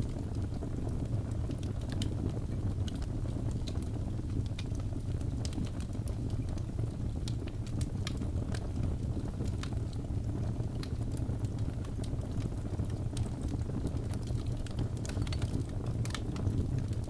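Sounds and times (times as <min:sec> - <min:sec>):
fire flames rumbling: 0:00.0 - 0:17.0
wood crackling and popping: 0:00.0 - 0:17.0.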